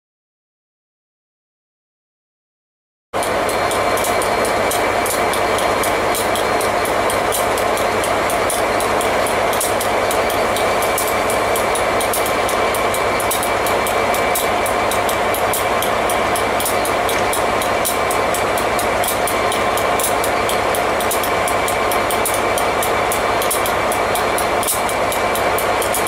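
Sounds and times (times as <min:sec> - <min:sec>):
diesel locomotive engine idling: 0:03.2 - 0:26.0
fast light high ticking: 0:03.2 - 0:26.0.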